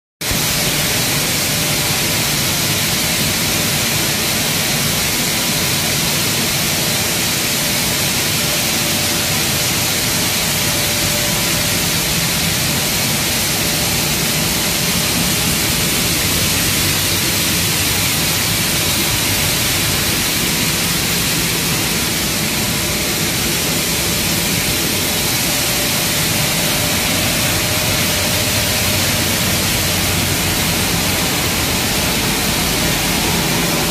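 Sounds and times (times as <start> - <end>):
flour milling machines running: 0.2 - 33.9.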